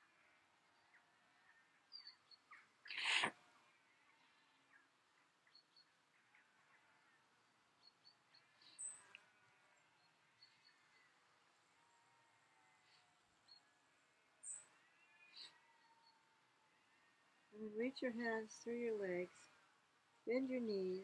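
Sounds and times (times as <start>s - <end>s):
faint birdsong: 0.0s - 21.0s
small birds chirping: 0.1s - 16.3s, 20.3s - 21.0s.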